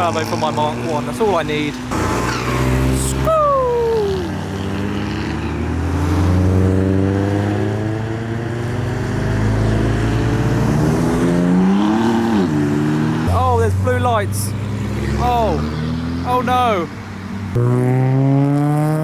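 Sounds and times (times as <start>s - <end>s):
car engines and exhausts: 0.0s - 19.0s
engine revving: 0.2s - 19.0s.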